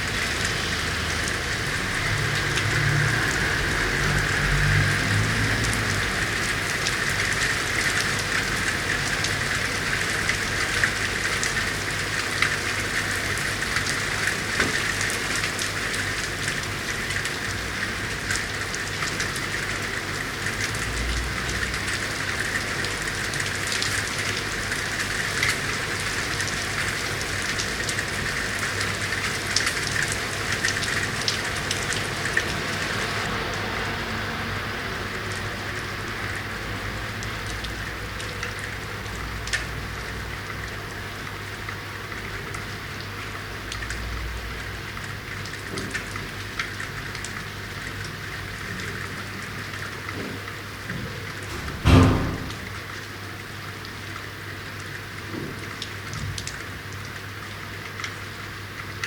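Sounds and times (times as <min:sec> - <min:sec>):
rain on hard surfaces: 0:00.0 - 0:59.0.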